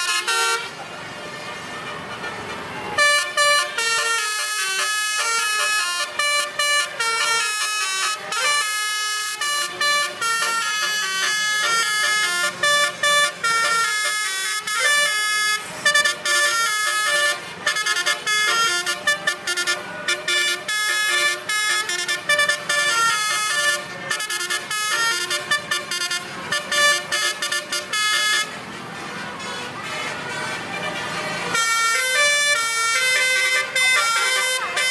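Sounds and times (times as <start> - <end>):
truck horns playing a melody: 0.0 - 34.9.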